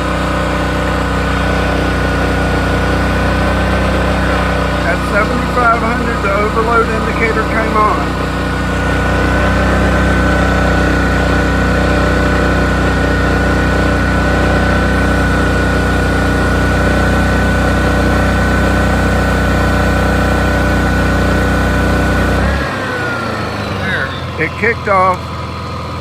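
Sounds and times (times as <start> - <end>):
generator engine running: 0.0 - 26.0
steady high whine: 0.0 - 26.0.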